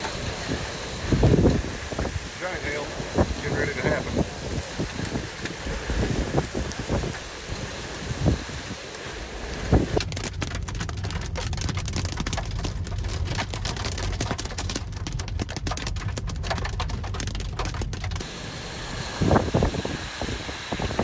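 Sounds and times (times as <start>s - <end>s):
hailstones striking a vehicle: 0.0s - 21.0s
low rumble of wind and engine: 0.0s - 21.0s.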